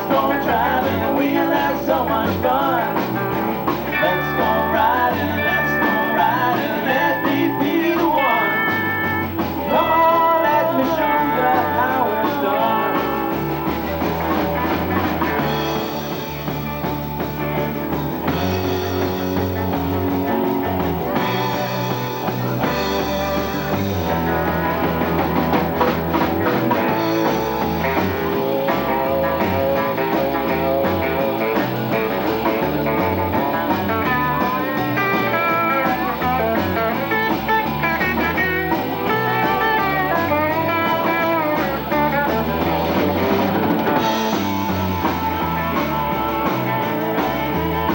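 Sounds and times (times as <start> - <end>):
rock band playing: 0.0 - 47.9
lead guitar bending notes: 2.9 - 47.9.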